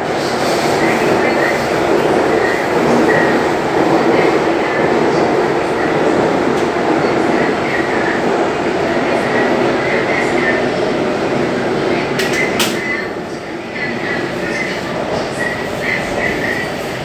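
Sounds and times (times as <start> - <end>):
metro train rumble: 0.0 - 17.0.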